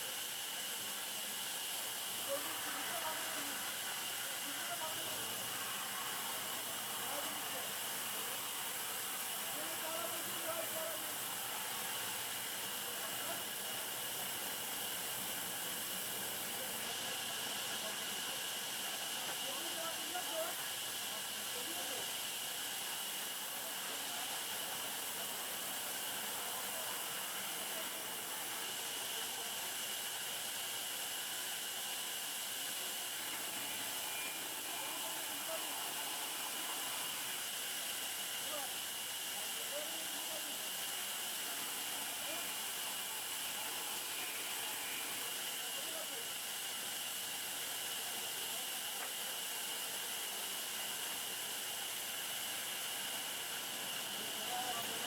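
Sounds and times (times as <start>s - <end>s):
steady hiss with high tone: 0.0s - 55.0s.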